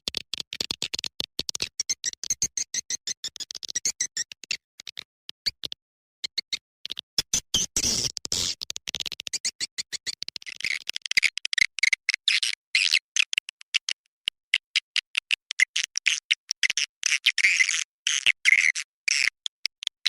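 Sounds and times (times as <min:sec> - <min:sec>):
twittering bird chirps and clicks: 0:01.6 - 0:20.0.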